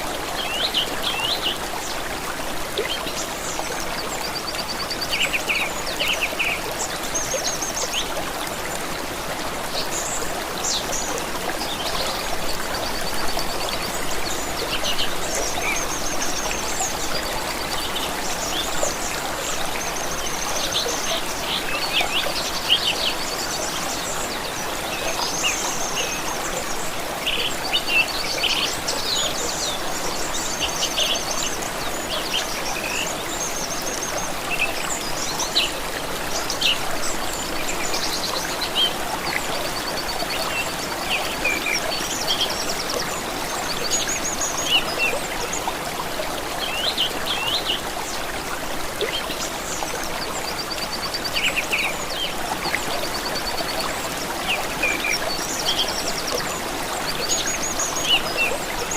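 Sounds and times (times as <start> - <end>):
stream running: 0.0 - 58.9.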